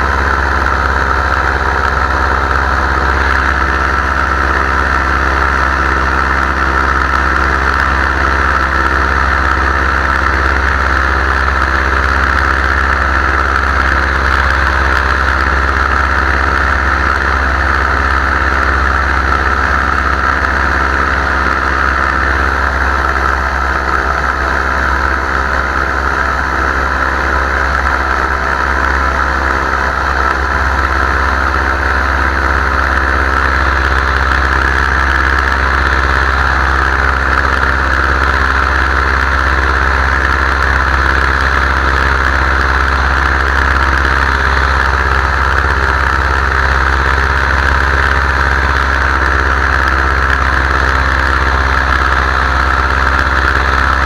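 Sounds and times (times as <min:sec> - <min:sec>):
engine and propeller droning: 0:00.0 - 0:54.0.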